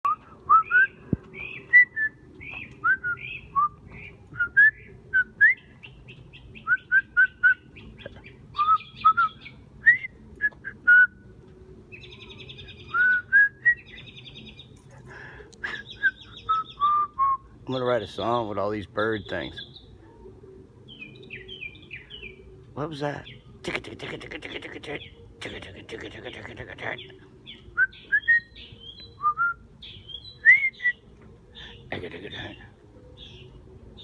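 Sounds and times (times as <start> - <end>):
songbird singing: 0.0 - 34.0.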